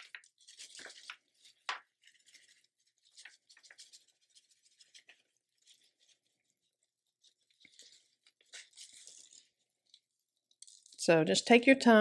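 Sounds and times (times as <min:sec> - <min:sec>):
plastic film rustling: 0:00.0 - 0:11.0
powder sliding on plastic: 0:00.0 - 0:11.0.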